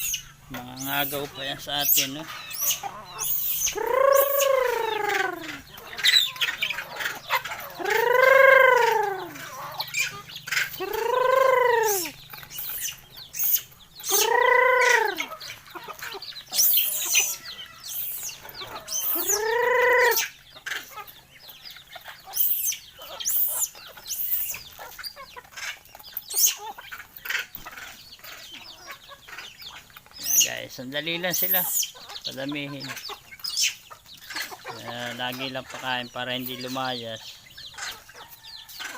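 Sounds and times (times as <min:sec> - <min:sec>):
chickens calling: 0:00.0 - 0:38.9
chickens clicking and scratching: 0:00.0 - 0:38.9.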